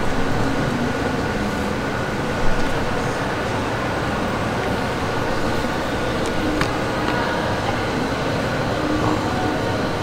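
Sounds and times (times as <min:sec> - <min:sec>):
heat gun fan rush and whine: 0:00.0 - 0:10.0.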